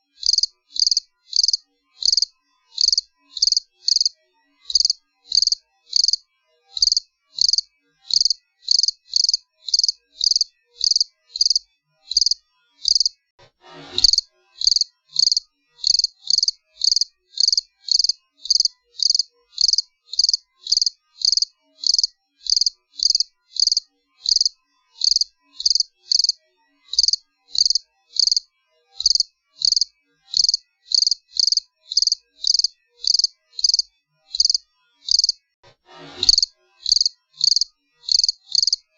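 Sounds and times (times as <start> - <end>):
cricket chirping: 0.2 - 4.1, 4.7 - 6.2, 6.8 - 13.1, 14.0 - 28.4, 29.0 - 35.4, 36.3 - 38.8.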